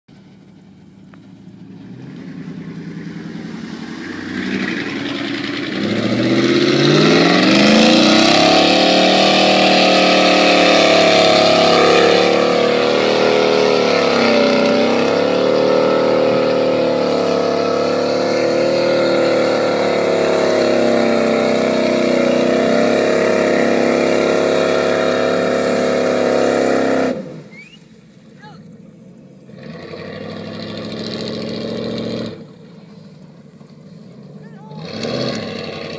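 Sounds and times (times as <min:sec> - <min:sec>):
truck engine revving: 0:00.1 - 0:35.9.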